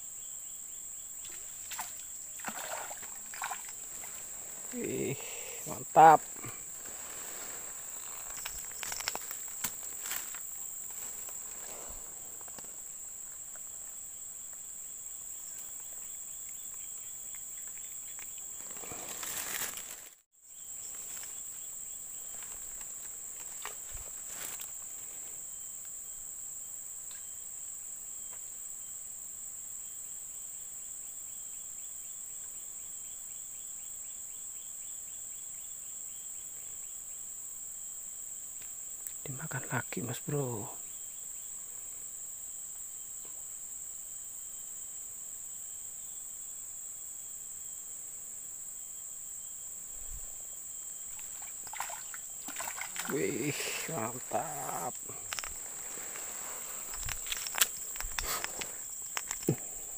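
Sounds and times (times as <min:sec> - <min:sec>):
insect chirping in quick pulses: 0:00.0 - 0:27.5, 0:31.3 - 0:59.9
insects droning: 0:00.0 - 0:59.9
rustle: 0:00.0 - 0:59.9.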